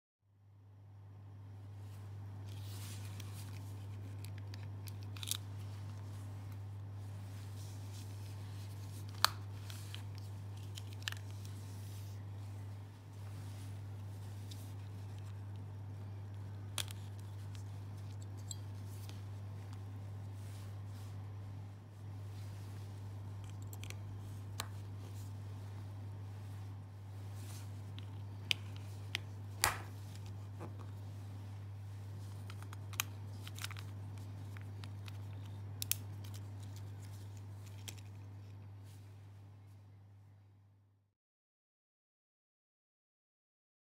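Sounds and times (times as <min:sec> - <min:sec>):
steady low hum: 0:00.3 - 0:40.9.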